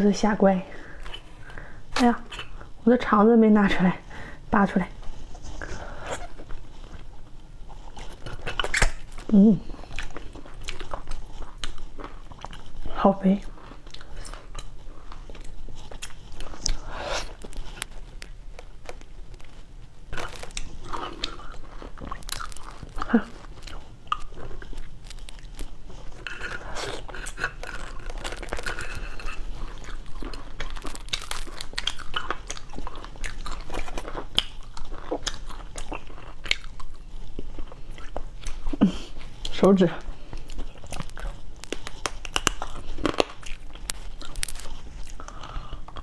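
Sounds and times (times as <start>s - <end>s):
chewing and sucking: 5.0s - 46.0s
crab shell cracking and crunching: 8.0s - 12.8s, 13.8s - 46.0s.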